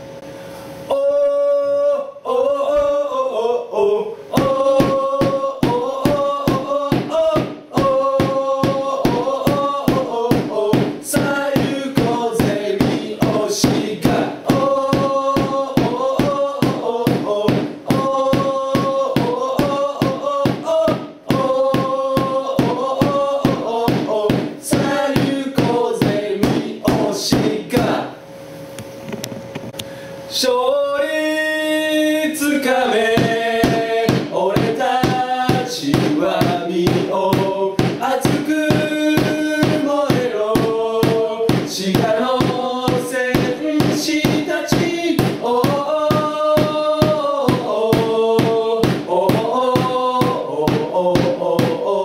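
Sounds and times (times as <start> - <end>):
fast steady drumbeat: 4.3 - 28.1, 32.9 - 52.0
football supporters chanting: 4.4 - 28.1, 32.3 - 52.0.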